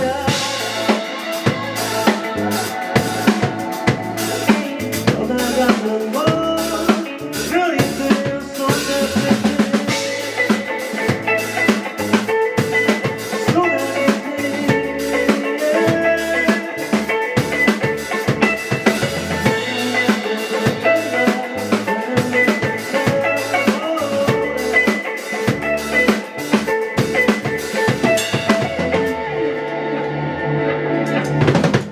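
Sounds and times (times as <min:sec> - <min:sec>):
drum kit: 0:00.0 - 0:29.8, 0:31.0 - 0:31.9
rock band playing live: 0:00.0 - 0:31.9.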